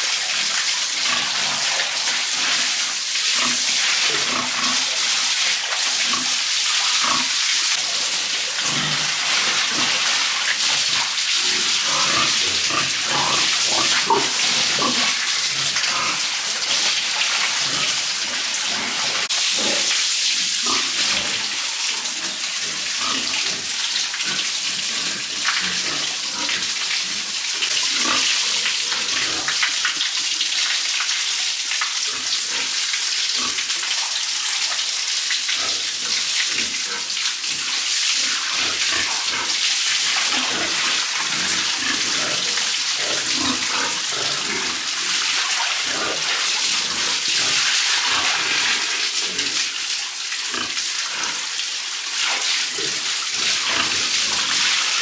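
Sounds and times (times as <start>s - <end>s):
small water splashes: 0.0s - 55.0s
water spraying from hose: 0.0s - 55.0s.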